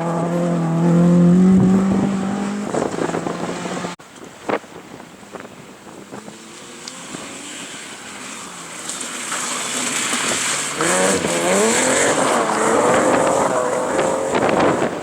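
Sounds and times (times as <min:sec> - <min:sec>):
rally car engine: 0:00.0 - 0:04.0, 0:04.9 - 0:15.0.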